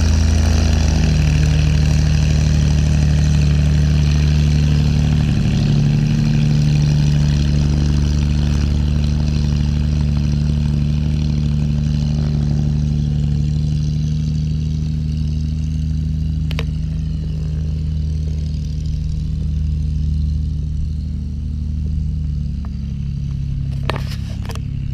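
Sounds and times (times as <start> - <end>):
aircraft engine running: 0.0 - 24.9.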